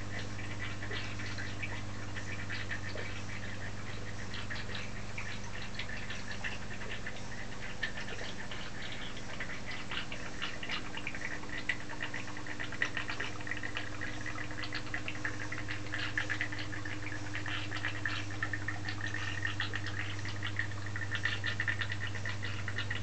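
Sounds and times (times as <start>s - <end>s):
fountain pump humming: 0.0s - 23.0s
liquid trickling: 0.0s - 23.0s.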